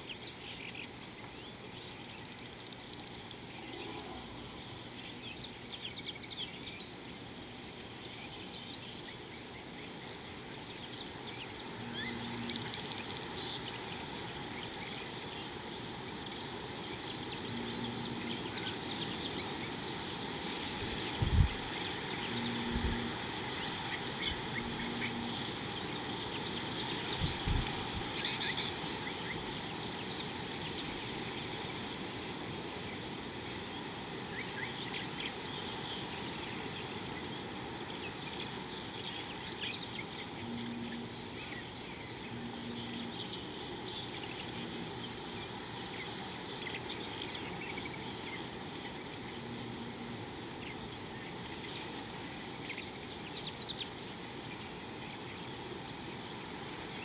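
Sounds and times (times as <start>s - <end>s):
birds chirping: 0.0s - 57.0s
outdoor background hiss: 0.0s - 57.0s.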